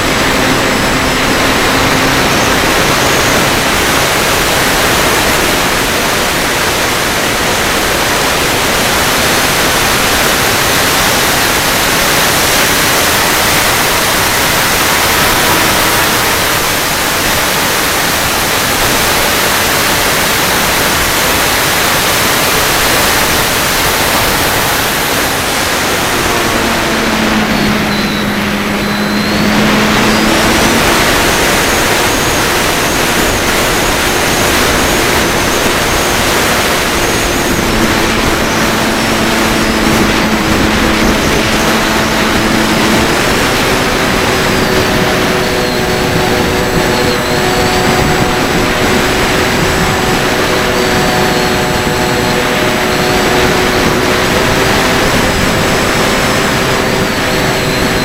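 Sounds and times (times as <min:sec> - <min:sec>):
drone motors whining: 0:00.0 - 0:58.0
wind and propeller wash hiss: 0:00.0 - 0:58.0.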